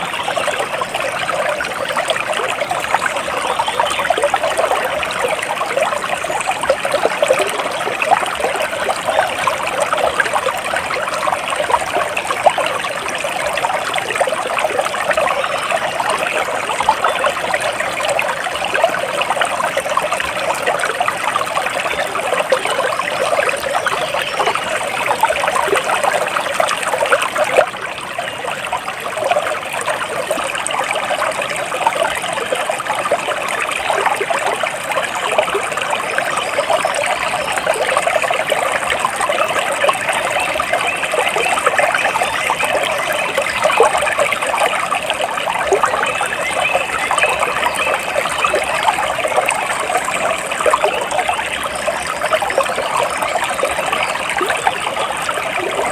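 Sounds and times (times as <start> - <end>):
stream trickling over stones: 0.0 - 55.9.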